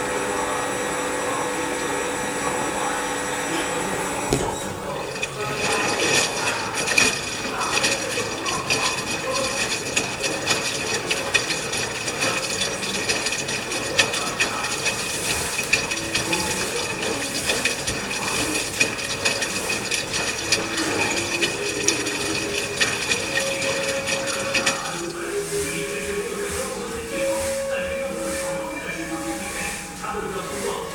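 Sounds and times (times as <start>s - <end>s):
washing machine whine: 0.0s - 30.9s
water splashing in washing machine: 0.0s - 30.9s.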